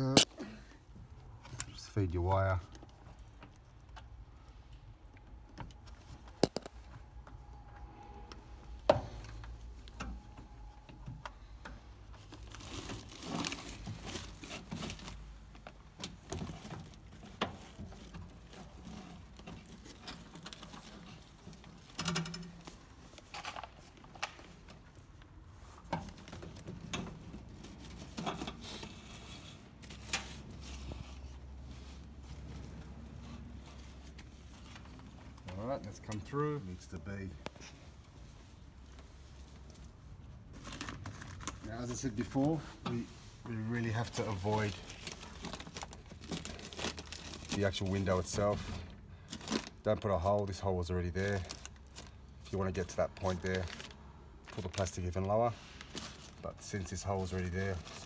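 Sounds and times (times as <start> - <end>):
rustling and scraping of wiring: 1.2 - 58.0.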